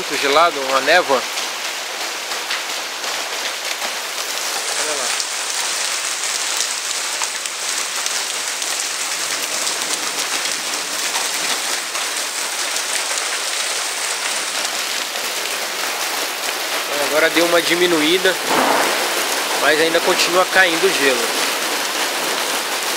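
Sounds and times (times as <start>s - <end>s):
hailstones falling: 0.1s - 22.9s.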